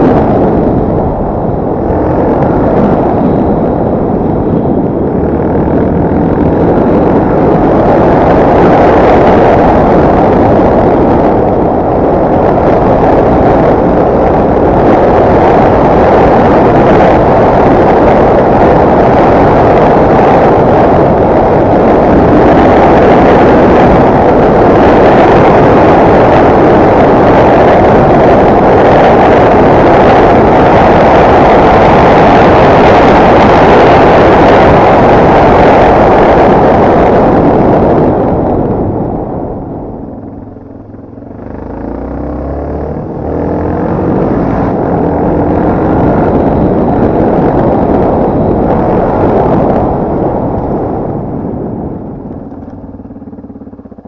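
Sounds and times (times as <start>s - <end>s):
motorcycle engine roaring: 0.0s - 54.0s.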